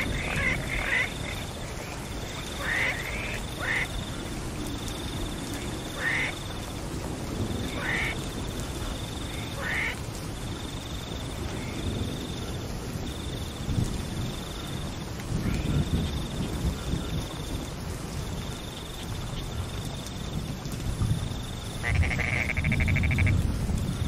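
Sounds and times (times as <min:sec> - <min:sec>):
rain falling on grass: 0:00.0 - 0:24.0.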